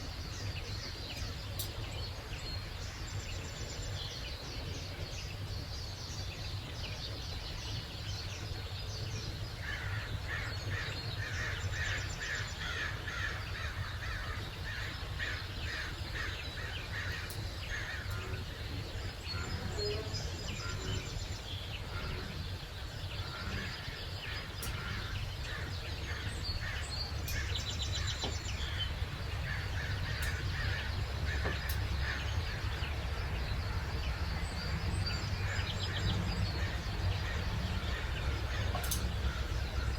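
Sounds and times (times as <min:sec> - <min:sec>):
low background rumble: 0:00.0 - 0:39.9
wild birds calling and chirping: 0:00.0 - 0:39.9.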